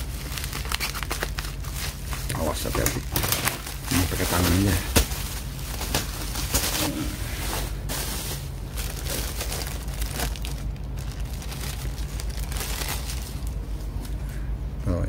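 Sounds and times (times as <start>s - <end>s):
plastic packaging crinkling: 0.0s - 14.2s
low hum: 0.0s - 15.0s.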